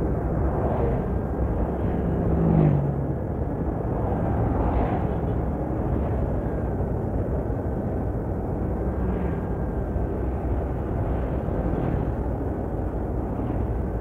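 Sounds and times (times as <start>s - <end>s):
vehicle road and engine rumble: 0.0s - 14.0s.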